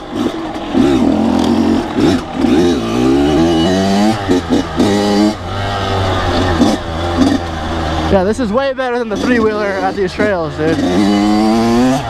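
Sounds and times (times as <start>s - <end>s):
two-stroke engine revving: 0.0s - 12.0s.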